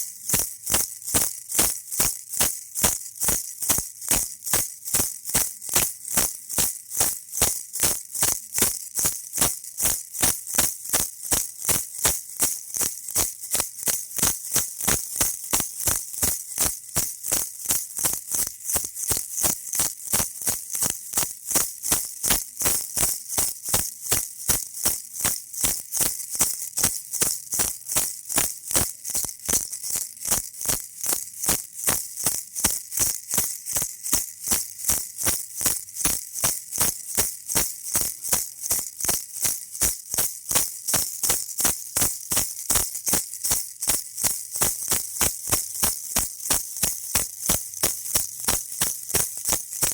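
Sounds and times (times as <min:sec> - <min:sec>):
baby rattle shaken: 0:00.0 - 0:49.9.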